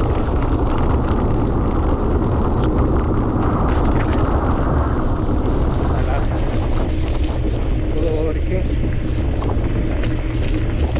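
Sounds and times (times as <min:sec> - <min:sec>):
bike tyres rolling on gravel: 0:00.0 - 0:10.9
wind buffeting on microphone: 0:00.0 - 0:10.9.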